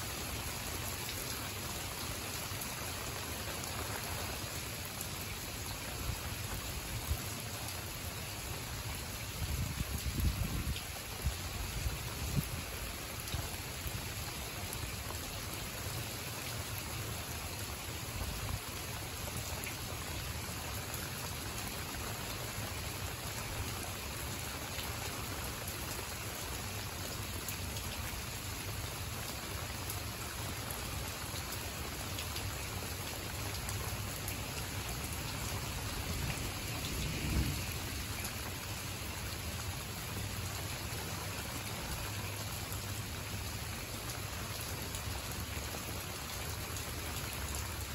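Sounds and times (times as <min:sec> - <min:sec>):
rain falling on leaves: 0:00.0 - 0:47.9.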